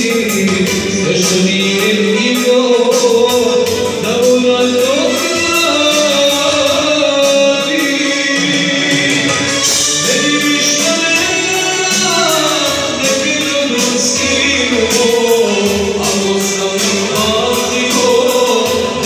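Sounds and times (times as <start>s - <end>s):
backing music with beat: 0.0s - 19.0s
man singing: 0.0s - 19.0s.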